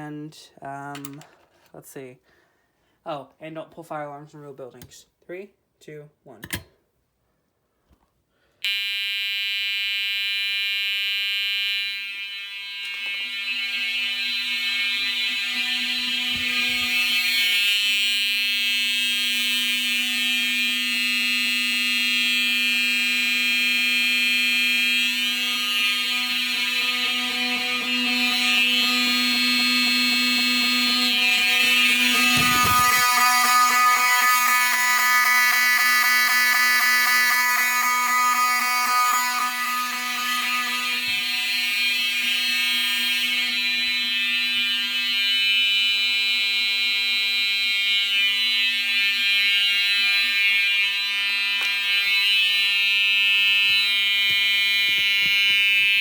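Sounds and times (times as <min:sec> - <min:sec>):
fire alarm horns: 0:08.5 - 0:56.0.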